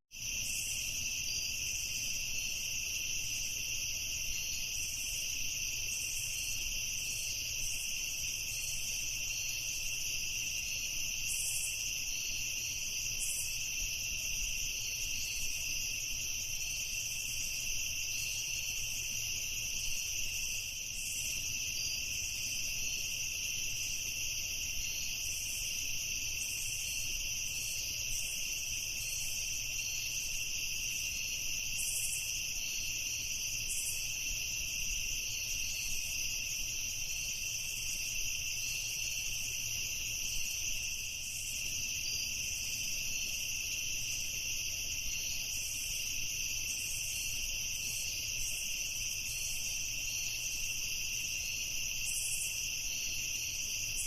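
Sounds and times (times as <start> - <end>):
crickets trilling: 0.1 - 54.0.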